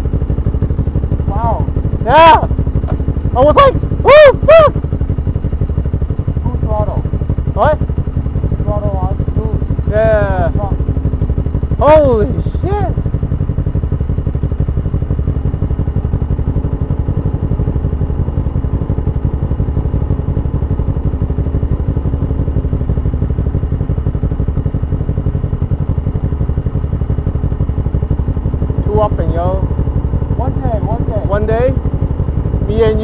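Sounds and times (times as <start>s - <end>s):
low rumble: 0.0s - 33.0s
motorcycle engine cruising: 0.0s - 33.0s.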